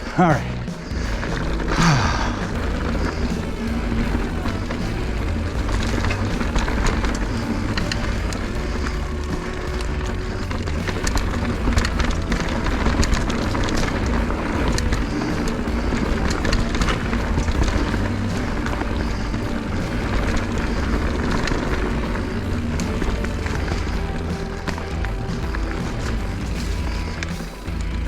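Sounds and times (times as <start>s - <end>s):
background music: 0.0s - 28.0s
bike rattling and clicking: 0.0s - 28.0s
bike tyre noise: 0.0s - 28.0s.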